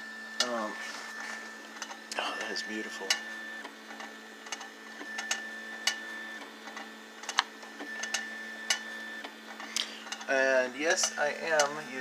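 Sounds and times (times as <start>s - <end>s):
printer stepper motors humming: 0.0s - 12.0s.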